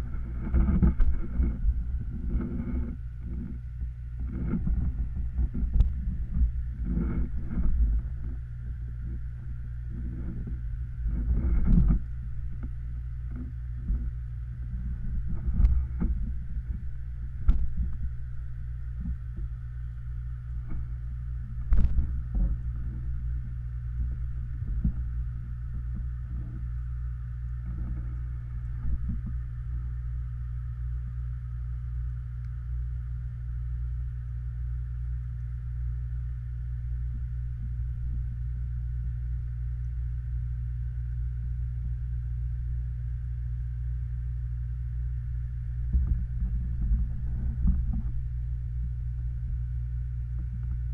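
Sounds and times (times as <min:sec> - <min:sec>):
muffled underwater hum: 0:00.0 - 0:50.9.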